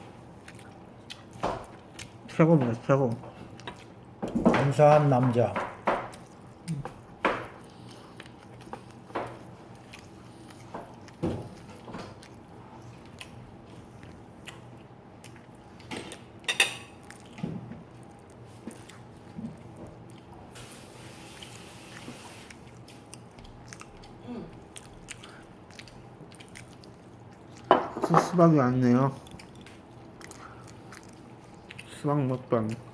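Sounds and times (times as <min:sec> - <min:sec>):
person chewing food: 0:00.0 - 0:32.9.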